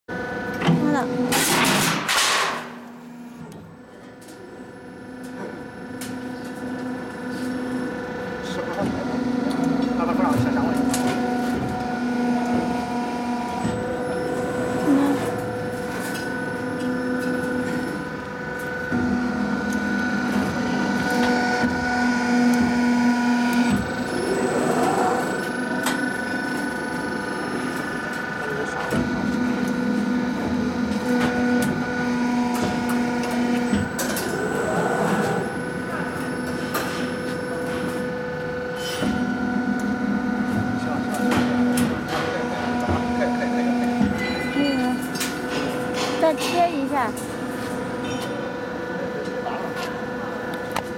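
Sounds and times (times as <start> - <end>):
roll forming machine humming: 0.1 - 50.9.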